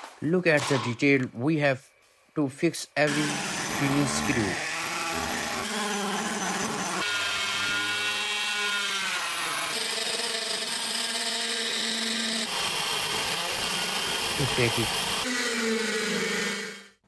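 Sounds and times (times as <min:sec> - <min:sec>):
handheld power tool whining: 0:03.1 - 0:17.0.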